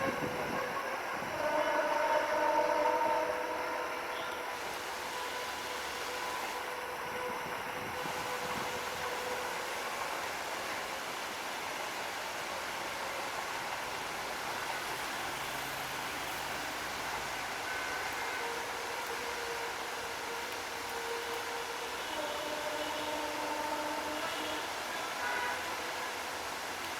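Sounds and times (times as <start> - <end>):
heavy rain hiss: 0.0 - 26.9
train rolling past: 0.0 - 26.9.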